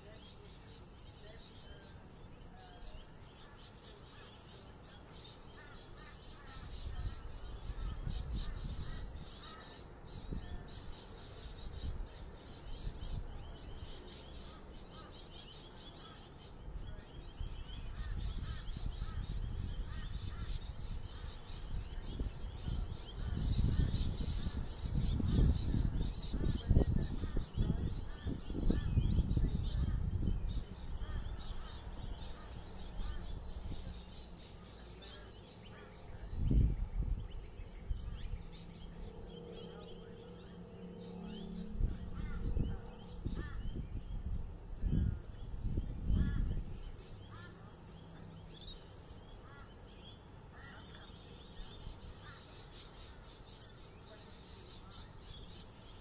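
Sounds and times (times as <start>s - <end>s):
birds chirping: 0.0s - 56.0s
low rumble of wind or traffic: 0.0s - 56.0s.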